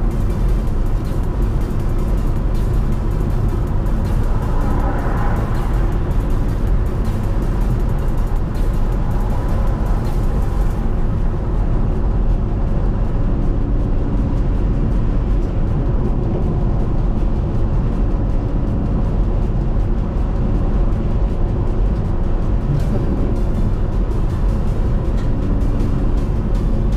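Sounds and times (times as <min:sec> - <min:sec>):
vehicle road and engine rumble: 0:00.0 - 0:26.9.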